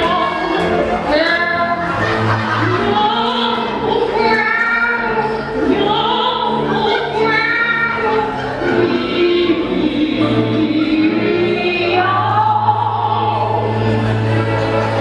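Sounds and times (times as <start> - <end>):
music with singing voices: 0.0 - 15.0.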